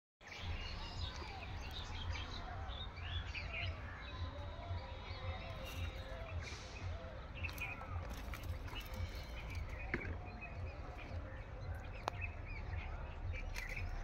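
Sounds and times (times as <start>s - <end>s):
birds chirping and calling: 0.2s - 14.0s.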